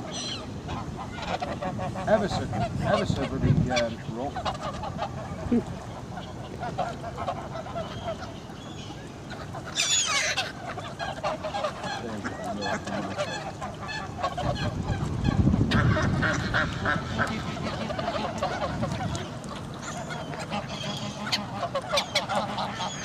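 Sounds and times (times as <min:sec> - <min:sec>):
geese and ducks honking: 0:00.0 - 0:23.0.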